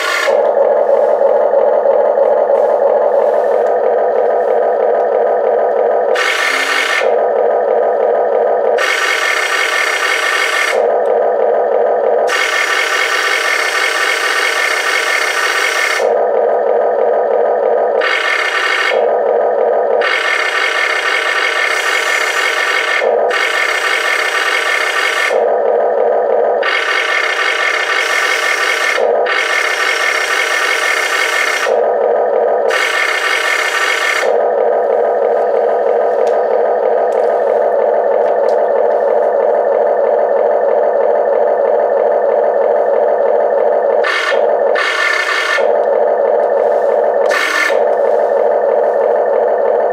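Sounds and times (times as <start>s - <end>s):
simulated engine drone: 0.0s - 49.9s.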